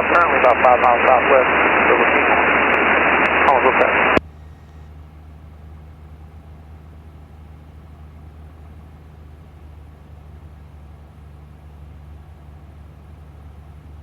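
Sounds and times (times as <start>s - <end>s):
aircraft engine drone: 0.0s - 11.8s.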